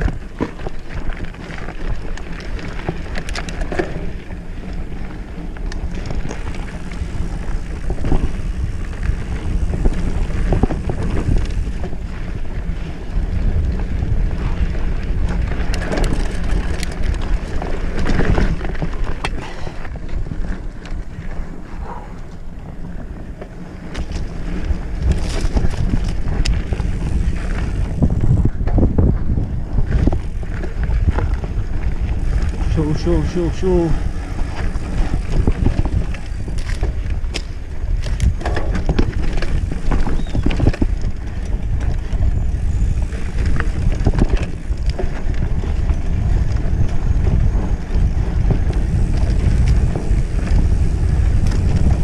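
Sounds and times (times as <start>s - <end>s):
bike clattering over bumps: 0.0s - 52.0s
wind rushing on microphone: 0.0s - 52.0s.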